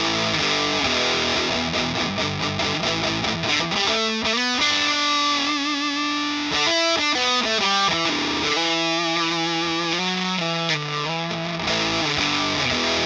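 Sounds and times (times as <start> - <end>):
distorted electric guitar lead notes: 0.0 - 13.0.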